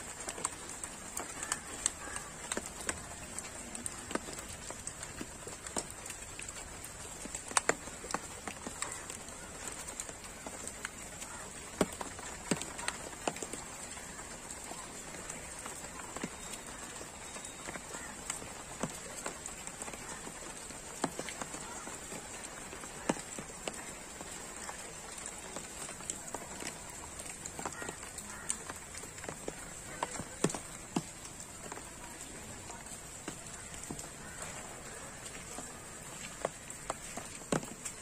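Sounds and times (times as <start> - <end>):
rain pattering and dripping: 0.0 - 38.0.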